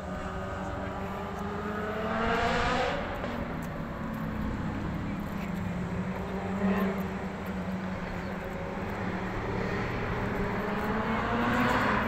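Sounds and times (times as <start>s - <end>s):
car engine and tyres humming: 0.0s - 12.0s.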